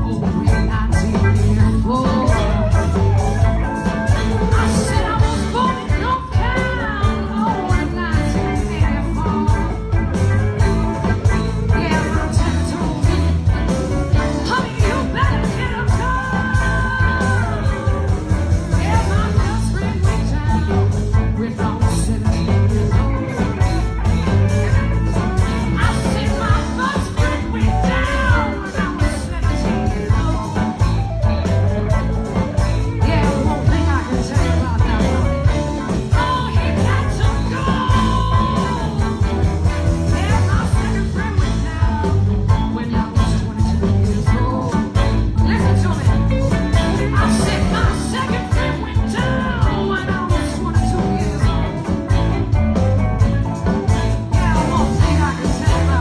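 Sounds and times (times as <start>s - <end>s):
live blues band playing: 0.0s - 56.0s
woman singing: 0.0s - 56.0s.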